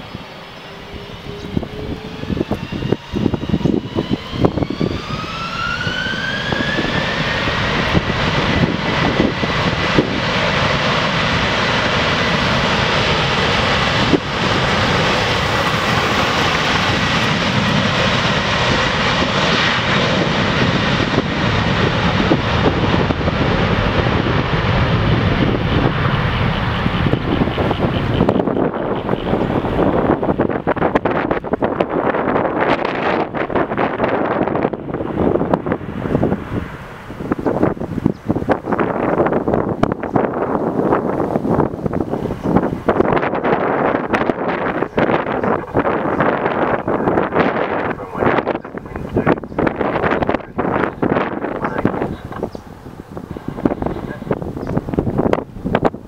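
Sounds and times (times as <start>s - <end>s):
jet engine roar: 0.0s - 56.0s
jet engine whine: 0.0s - 56.0s.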